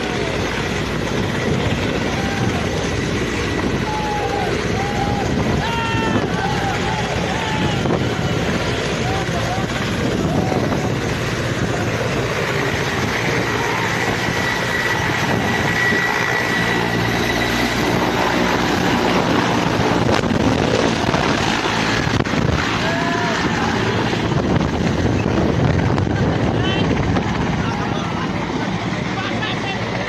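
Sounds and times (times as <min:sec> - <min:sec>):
wind buffeting microphone: 0:00.0 - 0:29.0
helicopter turbine and rotor: 0:00.0 - 0:30.0.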